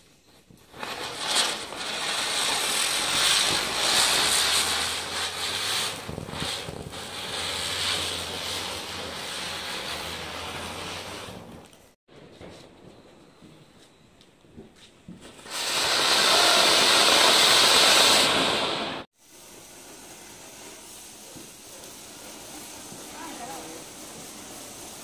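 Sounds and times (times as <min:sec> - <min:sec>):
spinning firecracker hissing: 0:00.3 - 0:12.0, 0:15.2 - 0:25.0.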